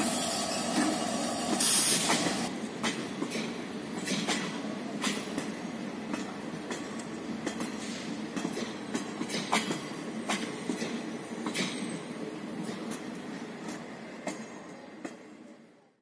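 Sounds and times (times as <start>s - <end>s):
wheels clacking on rail joints: 0.0s - 15.4s
train wheels rumbling on rails: 0.0s - 15.7s.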